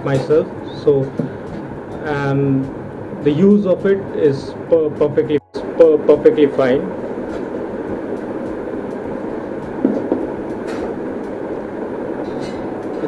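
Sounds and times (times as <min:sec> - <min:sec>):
steady rushing noise: 0:00.2 - 0:13.0.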